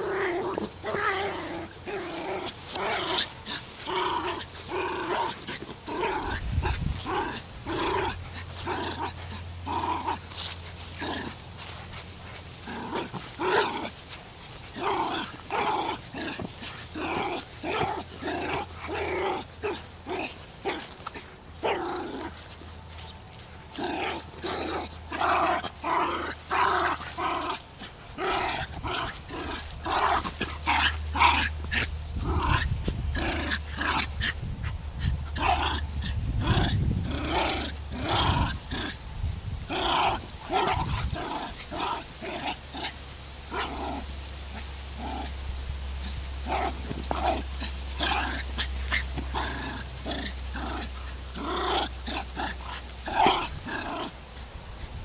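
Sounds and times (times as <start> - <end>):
dogs play-growling: 0.0 - 45.4, 46.0 - 55.0.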